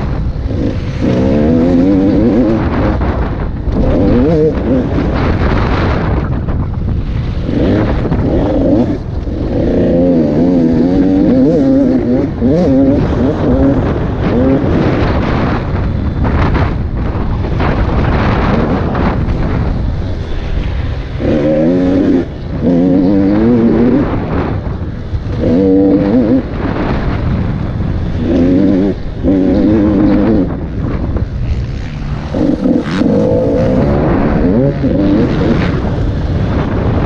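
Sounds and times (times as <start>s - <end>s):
motocross engine revving: 0.0s - 6.4s, 7.0s - 16.8s, 21.0s - 37.0s
wind buffeting microphone: 0.0s - 37.0s.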